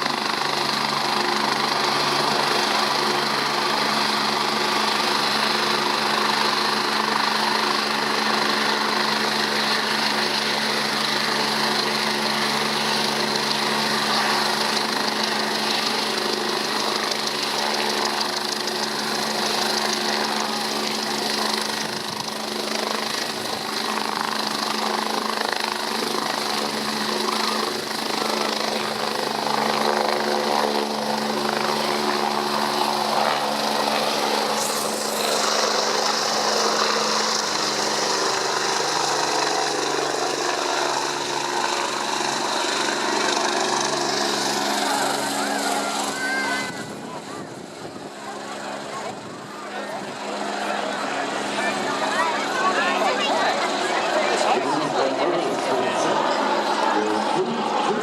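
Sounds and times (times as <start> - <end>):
helicopter engines and rotor: 0.0 - 58.0.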